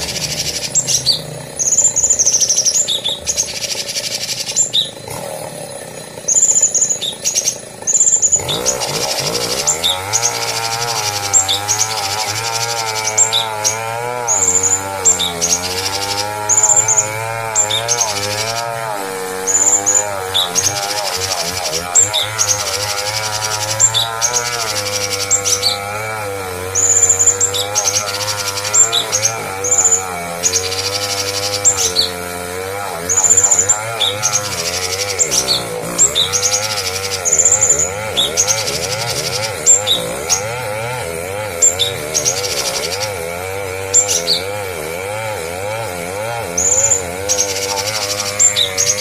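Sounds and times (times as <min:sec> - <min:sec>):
songbird chirps and trills: 0:00.0 - 0:05.3, 0:06.0 - 0:26.0, 0:26.7 - 0:32.4, 0:33.1 - 0:40.7, 0:41.4 - 0:43.2.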